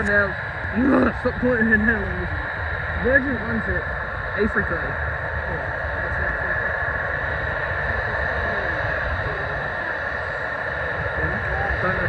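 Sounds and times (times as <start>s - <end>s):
jet engines whining: 0.0s - 12.0s
wind buffeting microphone: 0.0s - 12.0s.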